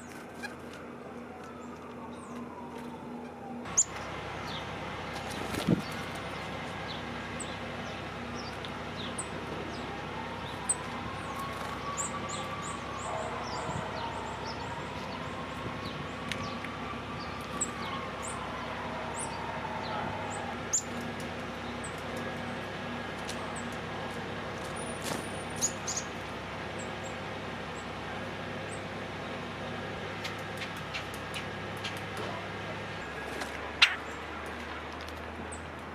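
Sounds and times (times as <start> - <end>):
outdoor background hum: 0.0 - 35.9
songbirds chirping: 0.0 - 35.9.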